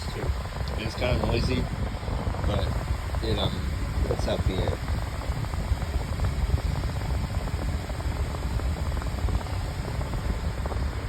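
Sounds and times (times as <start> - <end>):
box fan running: 0.0 - 11.0.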